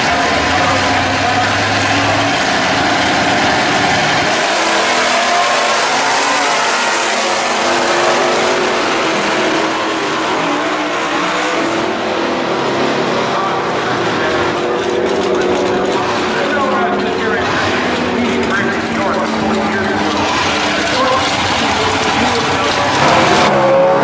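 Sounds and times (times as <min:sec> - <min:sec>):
car engines revving and accelerating: 0:00.0 - 0:24.0.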